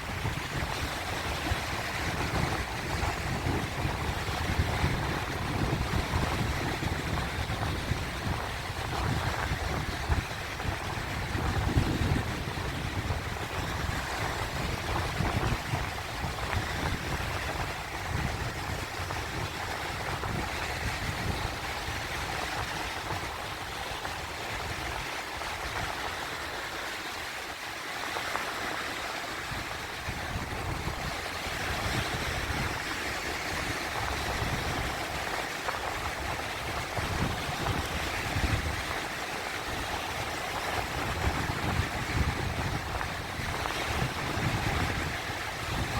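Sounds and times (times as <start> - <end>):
sea waves washing: 0.0 - 45.9.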